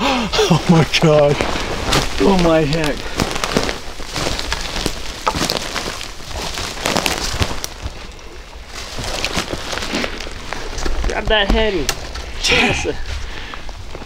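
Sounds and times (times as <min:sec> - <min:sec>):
footsteps on dry twigs: 0:00.5 - 0:14.0.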